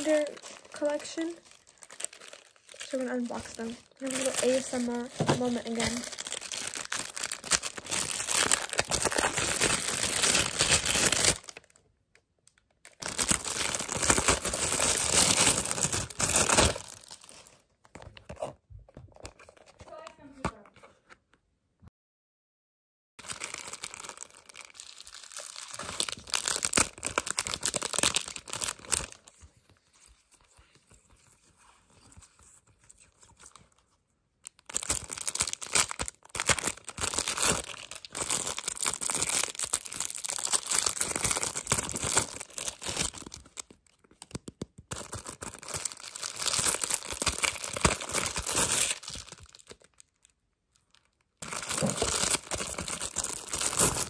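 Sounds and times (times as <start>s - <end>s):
plastic packaging crinkling: 0.0s - 11.8s, 12.4s - 18.5s, 23.2s - 31.2s, 32.2s - 54.0s.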